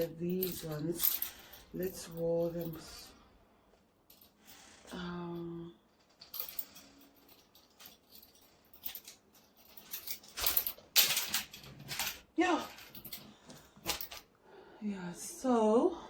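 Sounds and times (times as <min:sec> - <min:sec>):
earrings clicking and rattling: 0:00.0 - 0:03.2, 0:04.0 - 0:14.4.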